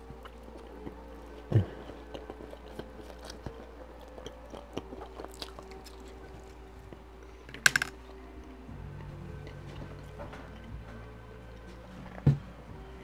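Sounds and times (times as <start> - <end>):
chewing noodles: 0.0 - 12.3
low background music: 0.0 - 13.0.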